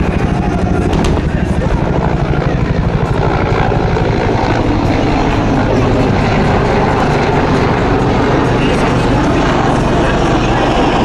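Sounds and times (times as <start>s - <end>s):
aircraft engines droning: 0.0s - 11.0s
helicopter rotor beating: 0.0s - 11.0s.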